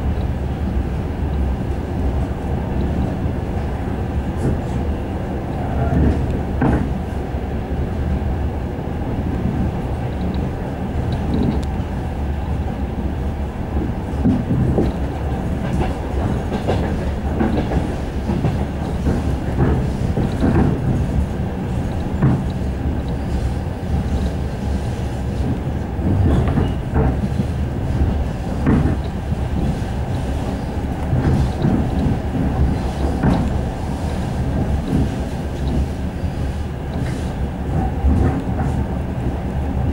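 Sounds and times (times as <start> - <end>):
train rumble inside carriage: 0.0 - 39.9
wheels clickety-clack on track: 0.0 - 39.9.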